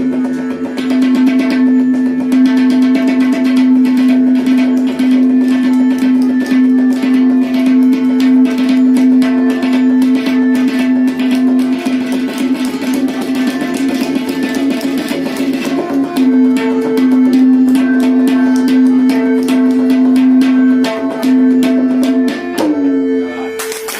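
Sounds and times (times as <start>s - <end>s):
tabla drumming: 0.0s - 23.9s.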